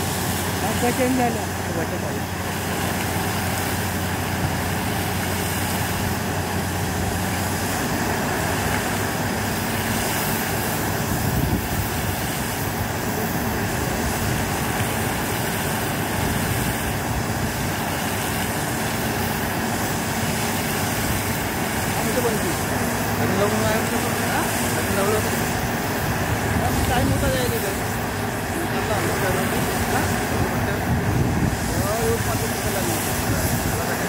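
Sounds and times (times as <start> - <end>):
engine-driven machinery running: 0.0 - 34.0.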